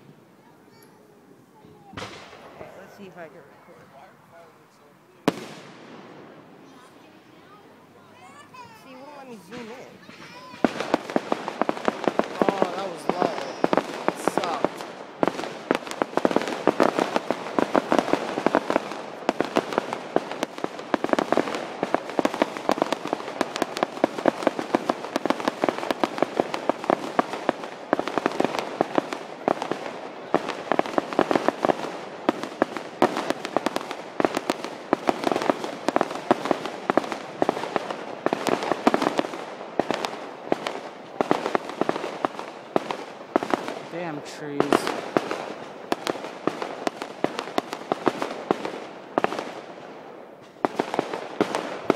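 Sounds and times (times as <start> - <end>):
fireworks booming and crackling: 1.6 - 51.9.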